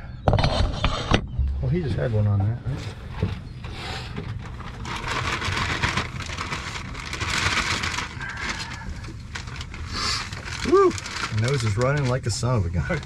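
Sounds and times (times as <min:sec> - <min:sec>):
constant low rumble: 0:00.0 - 0:13.0.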